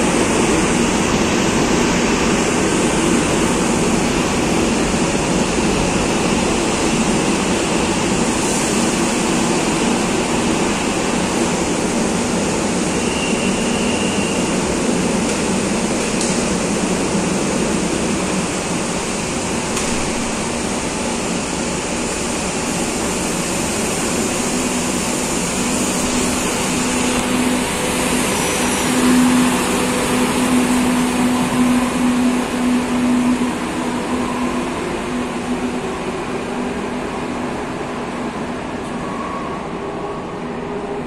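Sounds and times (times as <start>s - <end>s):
train wheels rumbling on track: 0.0s - 41.0s.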